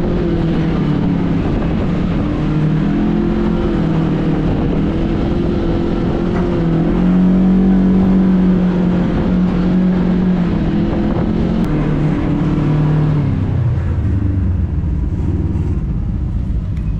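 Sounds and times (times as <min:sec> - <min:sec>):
off-road vehicle engine revving: 0:00.0 - 0:16.8.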